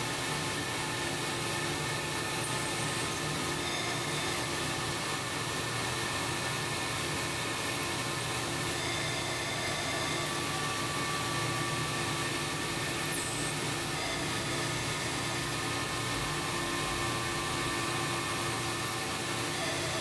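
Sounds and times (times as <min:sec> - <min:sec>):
metal lathe running: 0:00.0 - 0:20.0
drill bit boring into steel: 0:00.2 - 0:20.0.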